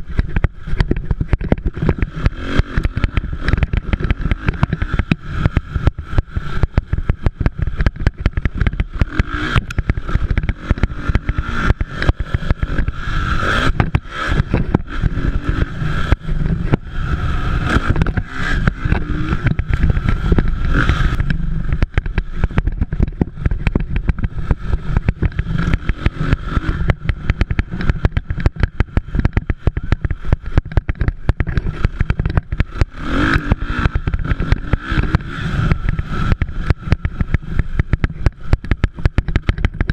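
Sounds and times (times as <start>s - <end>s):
dirt bike engines revving past: 0.0s - 39.9s
low rumble and crackle: 0.0s - 39.9s.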